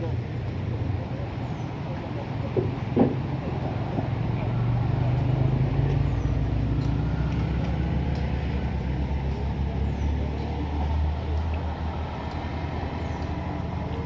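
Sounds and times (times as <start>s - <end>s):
truck engine climbing: 0.0s - 14.0s.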